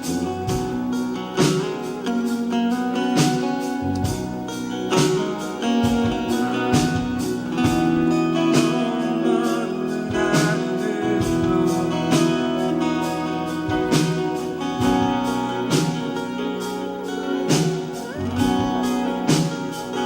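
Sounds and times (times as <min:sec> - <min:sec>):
strong beat: 0:00.0 - 0:02.6, 0:03.2 - 0:20.0
guitar: 0:00.0 - 0:20.0
instrumental gospel music: 0:00.0 - 0:20.0.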